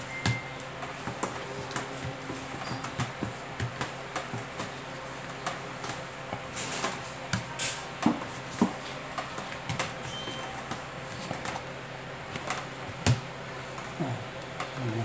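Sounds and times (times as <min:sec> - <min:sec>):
dough kneading thumps: 0:00.0 - 0:15.0.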